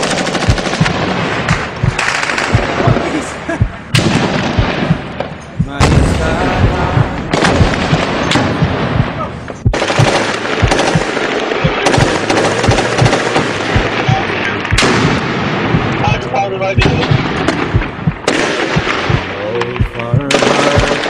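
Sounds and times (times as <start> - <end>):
heavy booms: 0.0 - 21.0
rapid gunfire: 0.0 - 21.0.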